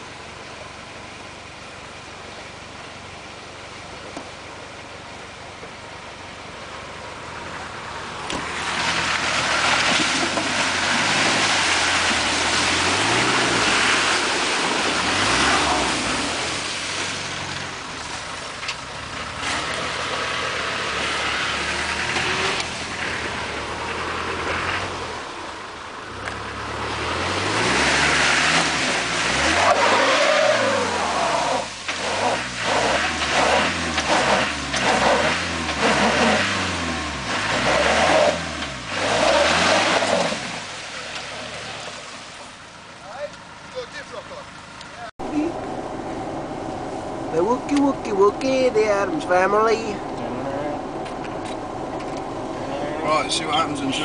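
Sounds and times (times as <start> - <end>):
car engine revving: 7.2 - 42.2, 43.7 - 54.0.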